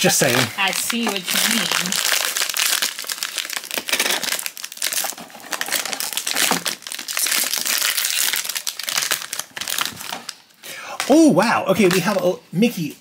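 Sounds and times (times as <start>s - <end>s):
foil bag crinkling: 0.0s - 10.6s.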